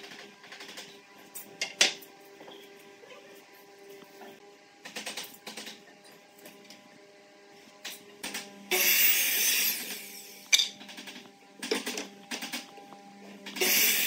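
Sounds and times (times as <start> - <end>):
miter saw cutting wood: 1.0 - 10.5, 11.2 - 14.0.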